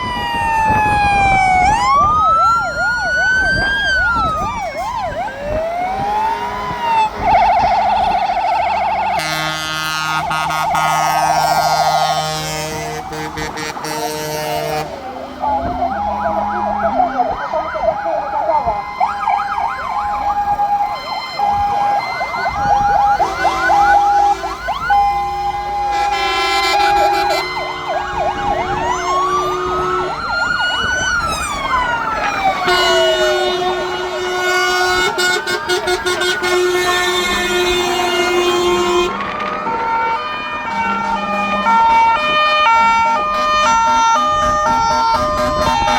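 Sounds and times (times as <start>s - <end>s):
fire engine sirens: 0.0s - 45.9s.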